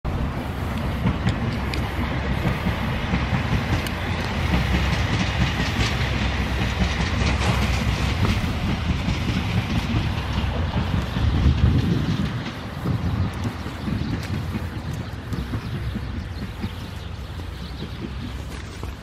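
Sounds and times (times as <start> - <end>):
train clicks: 0.1 - 19.0
train rumbling: 0.1 - 19.0.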